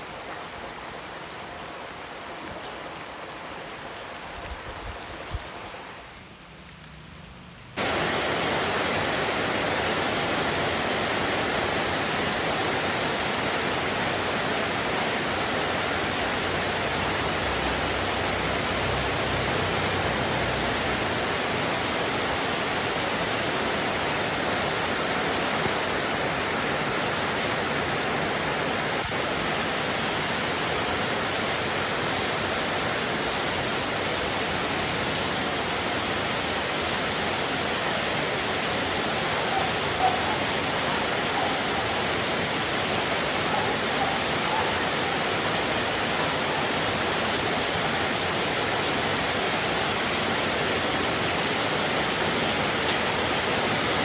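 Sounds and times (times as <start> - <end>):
dense rain hiss: 0.0 - 54.0.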